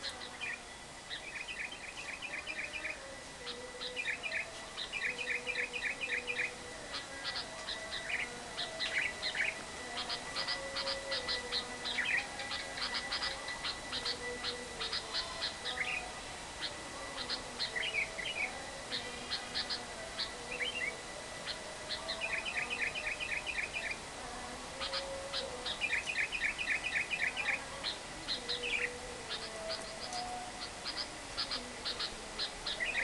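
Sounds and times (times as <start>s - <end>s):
lovebirds chattering: 0.0s - 33.0s.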